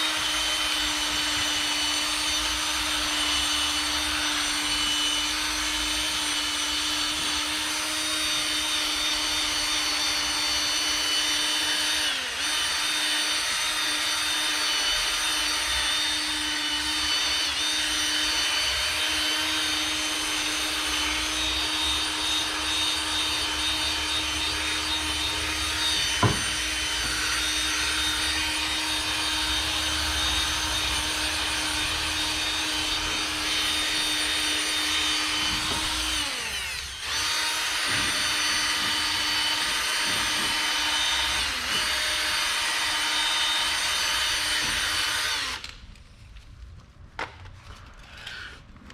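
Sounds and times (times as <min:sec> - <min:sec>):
electric drill polishing: 0:00.0 - 0:45.8.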